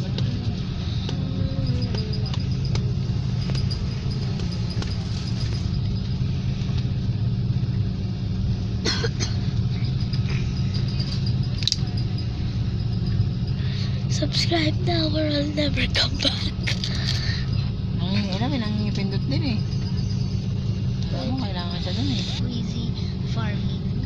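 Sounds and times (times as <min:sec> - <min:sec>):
sharp rattles: 0:00.0 - 0:07.2, 0:09.0 - 0:23.3
plane engines rumbling: 0:00.0 - 0:24.0.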